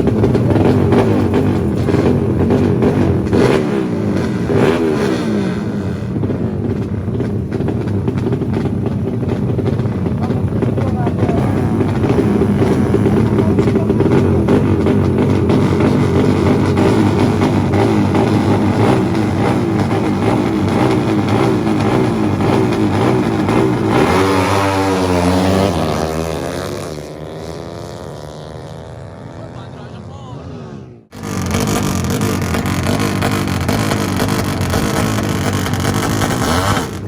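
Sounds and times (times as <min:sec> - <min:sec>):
motorcycle engine running loudly: 0:00.0 - 0:37.0.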